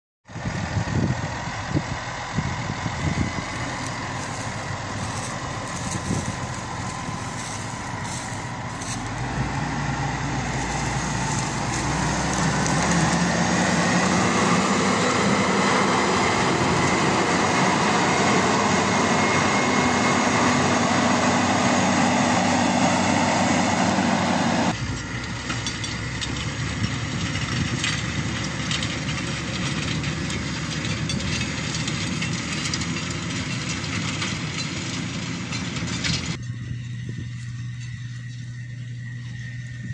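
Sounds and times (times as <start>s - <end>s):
tractor diesel engine under load: 0.2s - 39.9s.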